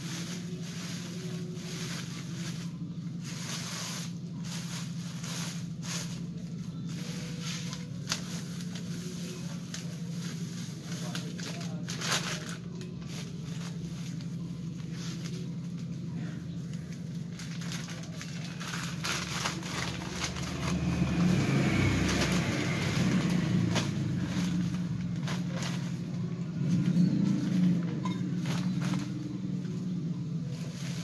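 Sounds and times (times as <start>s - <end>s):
low engine-like hum: 0.0s - 31.0s
plastic bags rustling: 0.0s - 31.0s.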